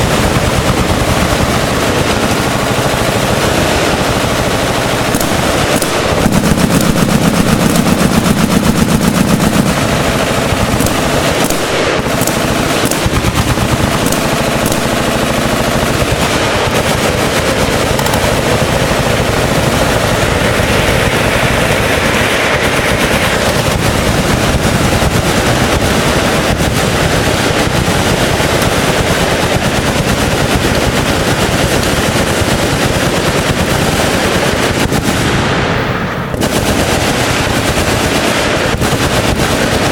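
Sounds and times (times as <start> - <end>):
machine guns firing: 0.0 - 39.9.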